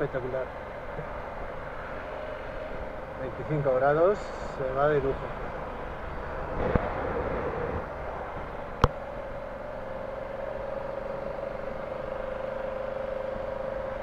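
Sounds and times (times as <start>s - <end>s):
motorcycle engine hum: 0.0s - 14.0s
wind and road noise: 0.0s - 14.0s.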